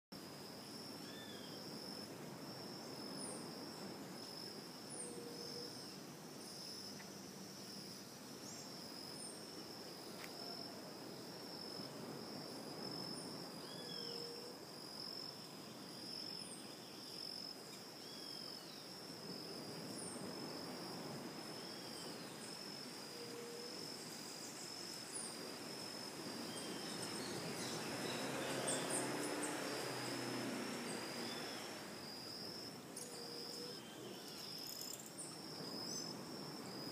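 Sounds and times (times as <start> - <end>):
insects chirring: 0.2 - 36.9.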